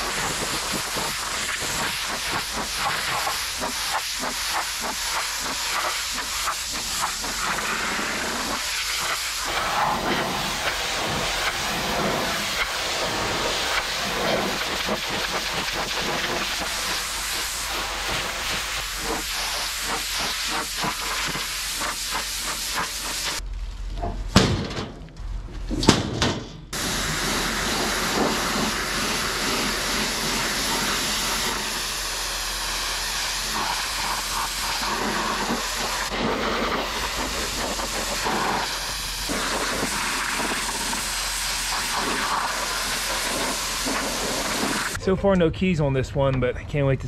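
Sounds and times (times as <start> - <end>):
pressure washer spraying water: 0.0 - 23.4, 26.8 - 45.0.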